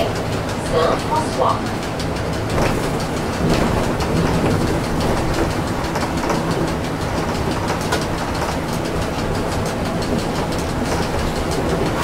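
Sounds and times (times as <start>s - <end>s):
small rattling clicks: 0.0s - 12.0s
trolleybus rumble and hiss: 0.0s - 12.0s.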